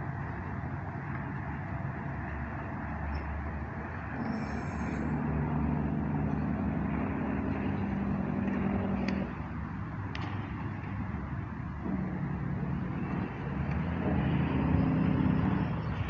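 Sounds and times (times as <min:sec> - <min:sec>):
outdoor background noise: 0:00.0 - 0:16.0
vehicle engine humming: 0:00.0 - 0:16.0.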